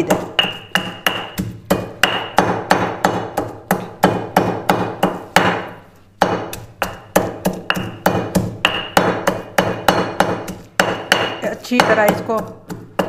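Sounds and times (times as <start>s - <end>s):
pestle pounding in a mortar: 0.0s - 13.0s.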